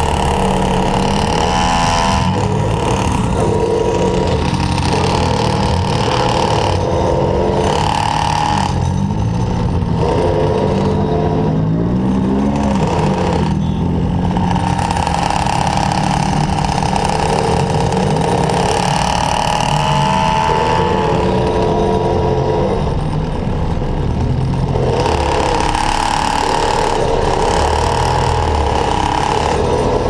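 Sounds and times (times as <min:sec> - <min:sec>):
scooter gas engine running: 0:00.0 - 0:30.0.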